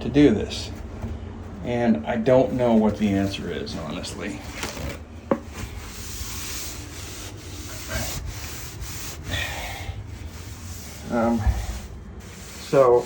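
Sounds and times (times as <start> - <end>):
paper towels scrubbing surface: 2.2 - 13.0.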